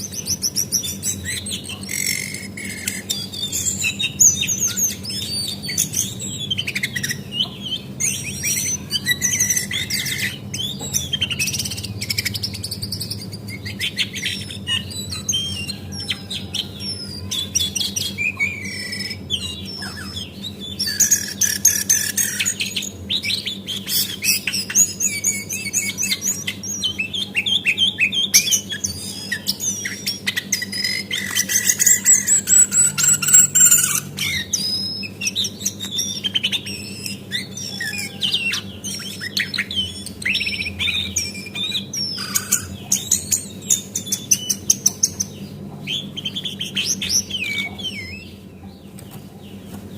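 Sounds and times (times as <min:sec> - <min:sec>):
bird singing chirps and trills: 0:00.0 - 0:49.9
steady low hum: 0:00.0 - 0:49.9.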